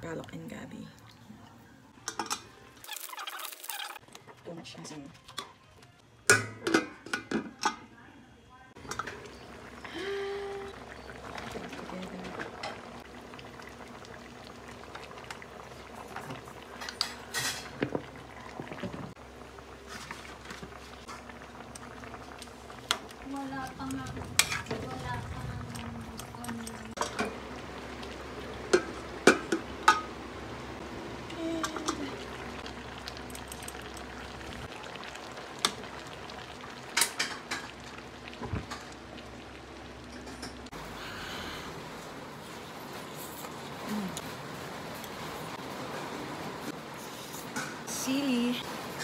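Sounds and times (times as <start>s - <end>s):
broth simmering and bubbling: 0.0s - 7.8s, 8.7s - 49.0s.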